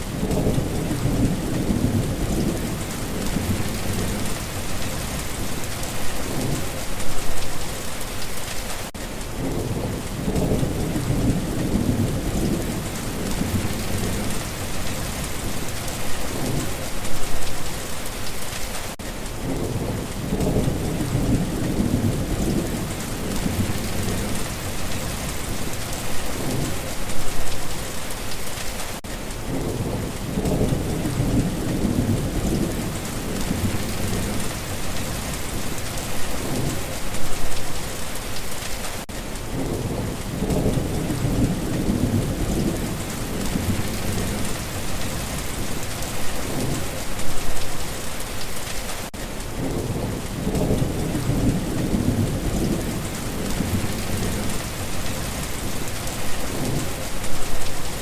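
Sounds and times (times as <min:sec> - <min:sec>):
thunder rumbling: 0:00.0 - 0:08.0, 0:09.3 - 0:18.0, 0:19.4 - 0:27.6, 0:29.4 - 0:37.8, 0:39.5 - 0:47.9, 0:49.4 - 0:58.0
heavy rain hissing: 0:00.0 - 0:58.0.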